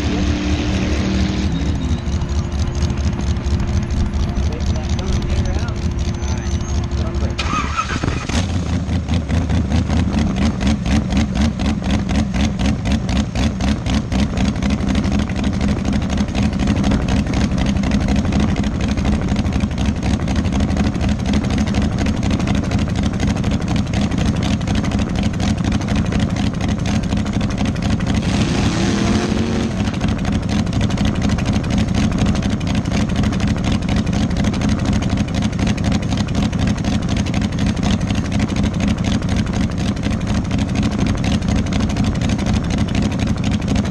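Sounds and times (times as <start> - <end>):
dragster engine idling: 0.1 - 28.4, 29.3 - 43.9.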